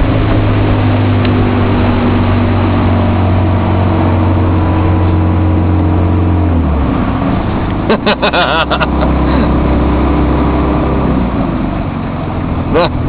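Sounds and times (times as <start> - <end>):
boat motor running: 0.0 - 13.0
water rushing against hull: 0.0 - 13.0
wind: 0.0 - 13.0.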